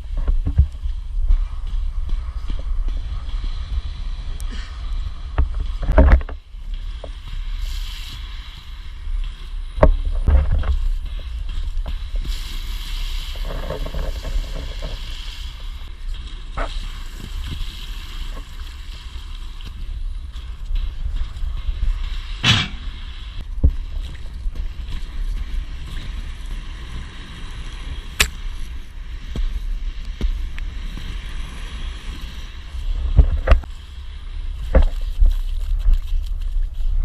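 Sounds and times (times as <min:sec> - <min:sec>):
wind on microphone: 0:00.0 - 0:37.0.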